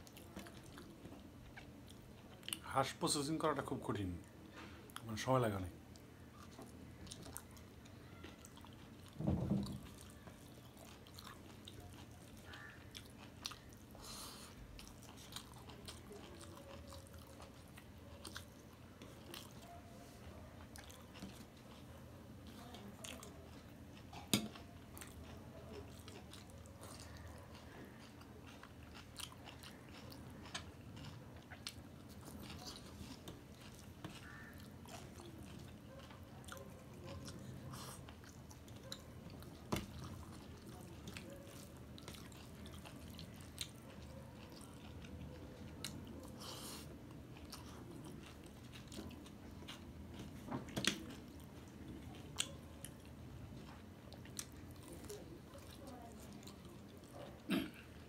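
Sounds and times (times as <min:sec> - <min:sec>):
man chewing food: 0:00.0 - 0:58.0.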